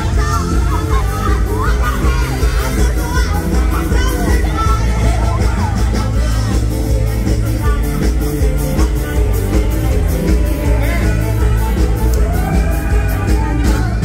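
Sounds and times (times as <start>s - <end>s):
amplified band music with bass: 0.0s - 14.0s
person singing: 0.0s - 14.0s
steady drum beat: 0.0s - 14.0s.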